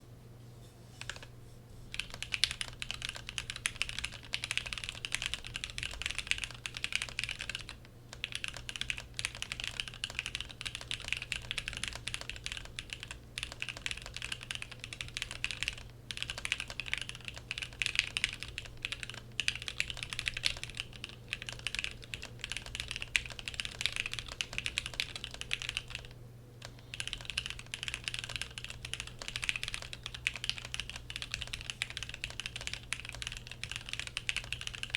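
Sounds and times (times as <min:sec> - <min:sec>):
typing on mechanical keyboard: 0:01.0 - 0:01.3, 0:01.9 - 0:34.9.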